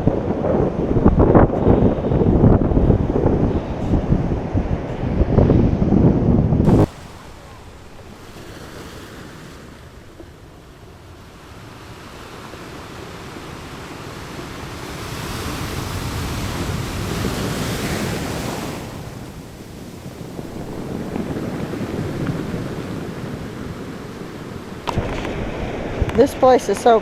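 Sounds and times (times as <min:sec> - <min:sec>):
ocean waves on beach: 0:00.0 - 0:27.0
wind buffeting microphone: 0:00.0 - 0:27.0.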